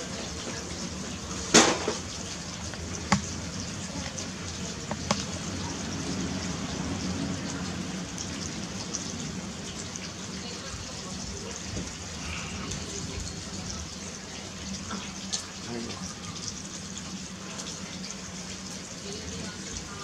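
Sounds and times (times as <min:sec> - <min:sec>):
rainwater trickling and dripping: 0:00.0 - 0:20.0.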